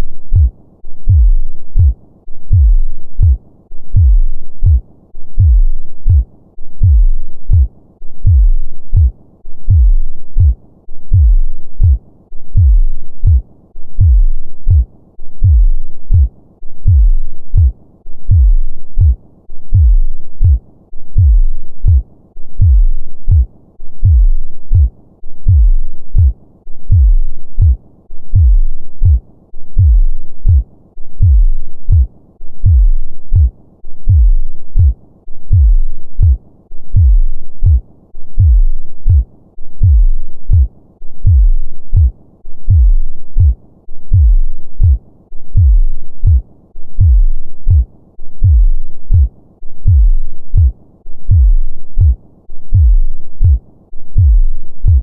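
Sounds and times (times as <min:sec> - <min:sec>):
heartbeat thumps: 0:00.0 - 0:13.4, 0:14.0 - 0:22.0, 0:22.6 - 0:46.4, 0:47.0 - 0:55.0.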